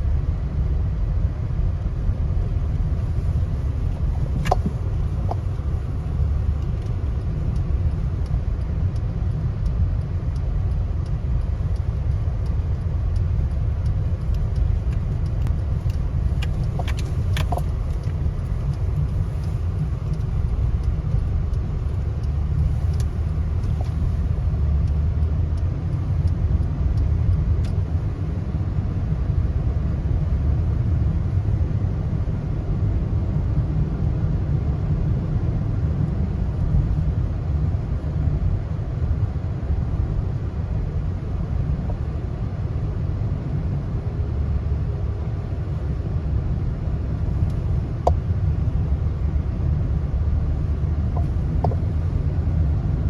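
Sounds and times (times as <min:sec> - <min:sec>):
car rumbling on the move: 0:00.0 - 0:53.0.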